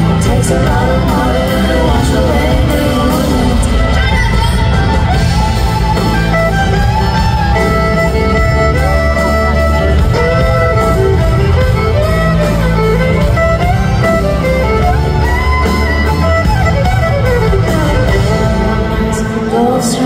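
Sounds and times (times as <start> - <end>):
fiddle melody: 0.0 - 20.0
heavy bass: 0.0 - 20.0
live country band playing: 0.0 - 20.0.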